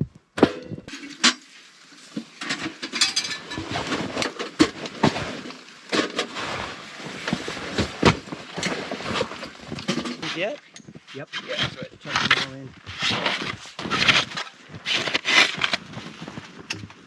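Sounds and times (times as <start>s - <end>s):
camping gear knocking and clattering: 0.4s - 17.0s
rustling: 0.8s - 17.0s.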